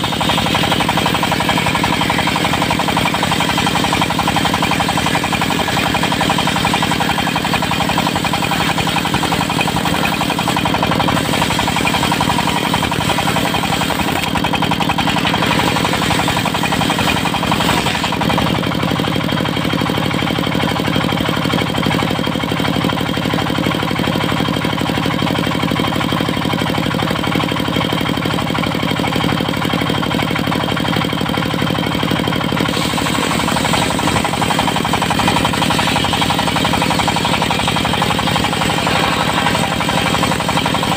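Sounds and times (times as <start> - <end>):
diesel engine knocking: 0.0 - 40.9.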